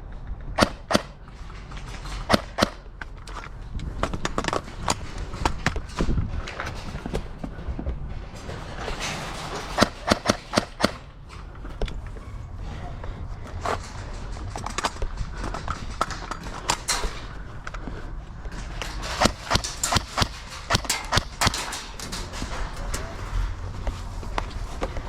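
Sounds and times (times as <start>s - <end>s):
low rumble: 3.2s - 25.0s.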